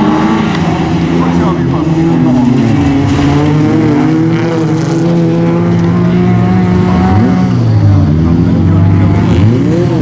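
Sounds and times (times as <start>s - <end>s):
race car engines at high revs: 0.0s - 10.0s.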